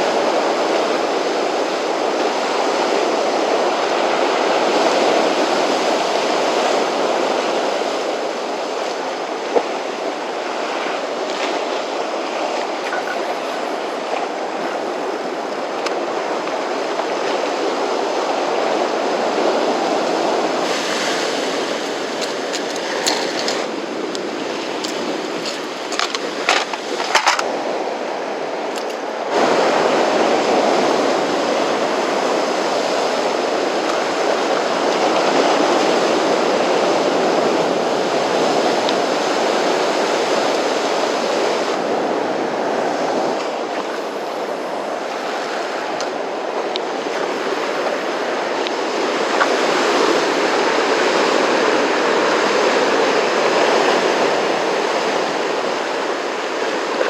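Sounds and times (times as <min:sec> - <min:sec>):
rough sea surging against shore: 0:00.0 - 0:57.0.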